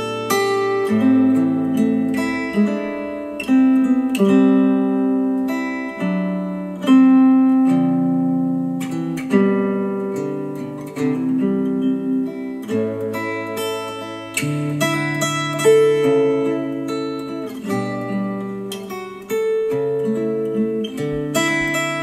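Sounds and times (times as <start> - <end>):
acoustic guitar chords over speakers: 0.0 - 22.0.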